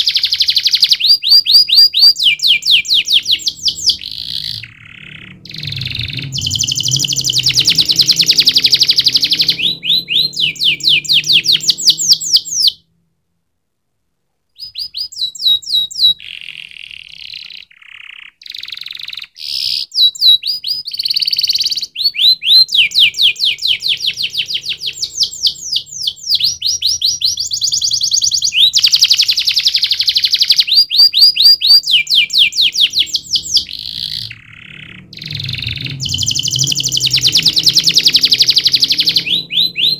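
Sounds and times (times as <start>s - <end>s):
canary singing trills: 0.0s - 12.8s, 14.6s - 39.9s.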